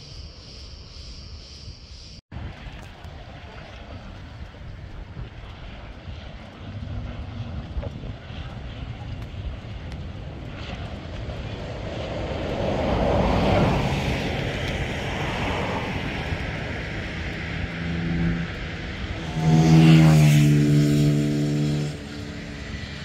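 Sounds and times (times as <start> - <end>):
watercraft engine passing: 2.3 - 23.0
steady pitched engine tone: 3.2 - 23.0.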